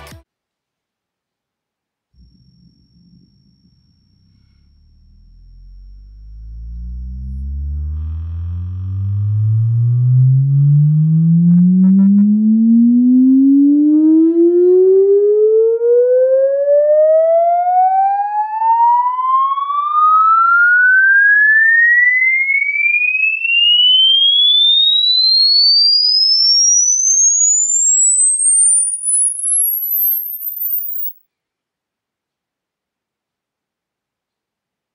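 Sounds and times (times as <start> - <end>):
rising sine tone sweep: 2.2 - 31.2.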